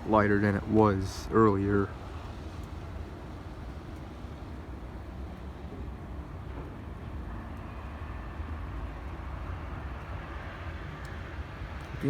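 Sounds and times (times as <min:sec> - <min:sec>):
distant vehicle engine rumble: 0:00.0 - 0:12.0.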